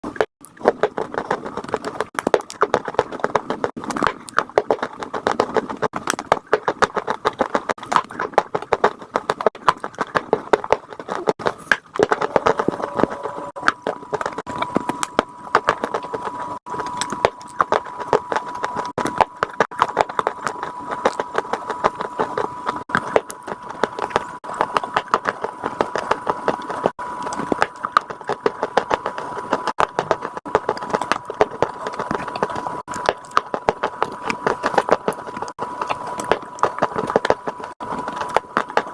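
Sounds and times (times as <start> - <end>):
thin steady whine: 0.0 - 38.9.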